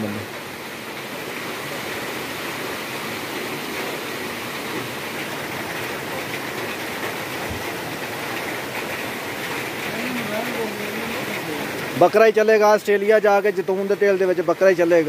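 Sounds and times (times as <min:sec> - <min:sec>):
stream pouring over rocks: 0:00.0 - 0:15.0.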